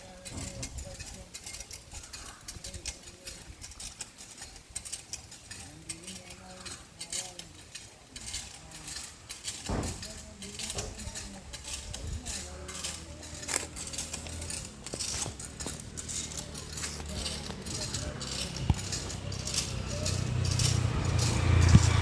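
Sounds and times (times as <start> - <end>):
scraping and clinking: 0.0 - 22.0.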